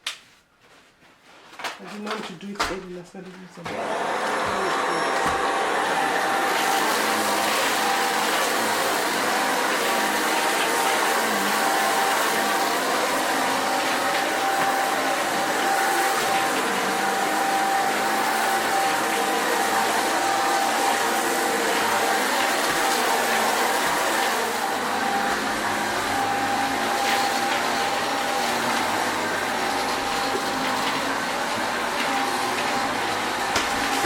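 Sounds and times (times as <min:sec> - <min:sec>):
vacuum cleaner running: 0:01.9 - 0:34.0.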